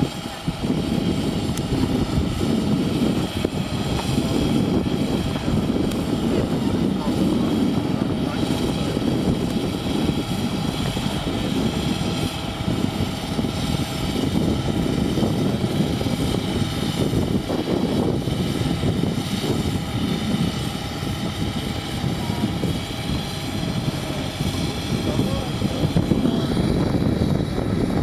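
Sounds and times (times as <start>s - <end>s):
boat engine droning with whine: 0.0s - 28.0s.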